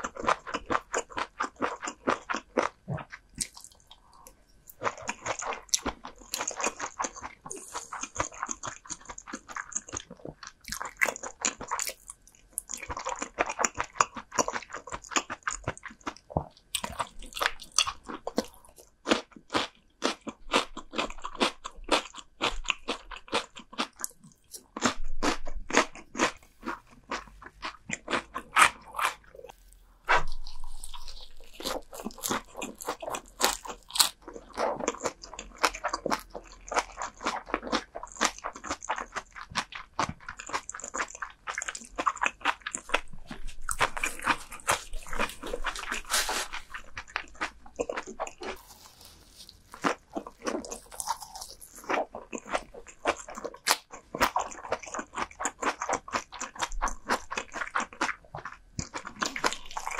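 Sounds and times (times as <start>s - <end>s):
chewing and crunching crisp food: 0.0s - 59.9s.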